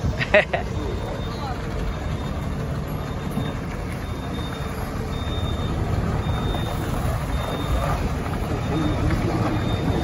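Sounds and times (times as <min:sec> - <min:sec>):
truck diesel engine running: 0:00.0 - 0:10.0
reverse alarm beeping: 0:00.6 - 0:10.0.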